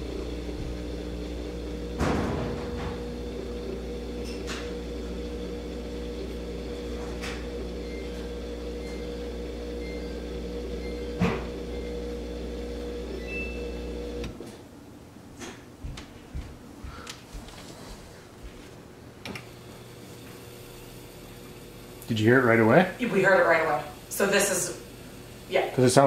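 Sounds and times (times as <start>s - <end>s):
dishwasher drain pump humming: 0.0s - 14.4s, 19.2s - 26.0s.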